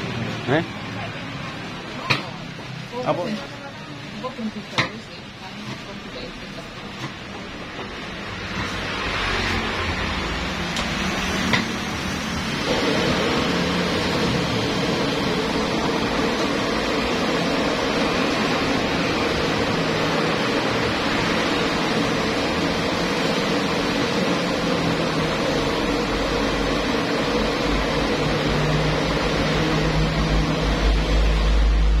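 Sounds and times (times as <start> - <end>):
gas burner rushing: 0.0 - 32.0.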